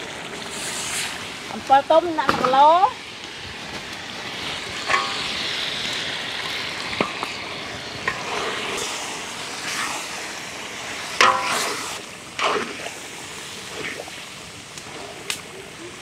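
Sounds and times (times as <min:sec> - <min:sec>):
food hissing in a wok: 0:00.0 - 0:16.0.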